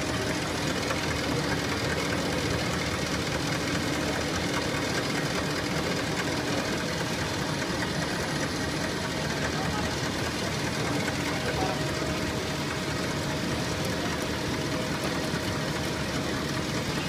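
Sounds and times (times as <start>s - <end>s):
machine rapid mechanical clatter: 0.0s - 17.0s.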